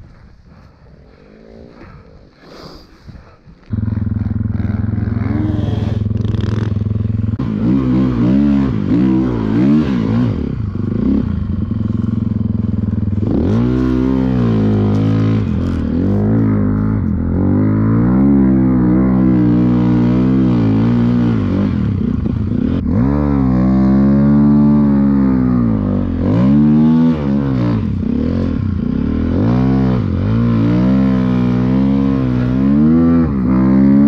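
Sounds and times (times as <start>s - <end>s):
dirt bike engine revving: 3.7s - 34.0s.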